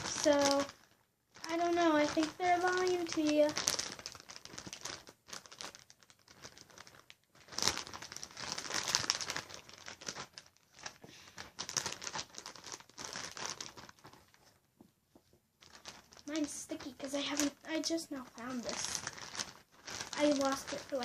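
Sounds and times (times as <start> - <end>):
plastic bag crinkling: 0.0 - 14.7, 15.6 - 21.0.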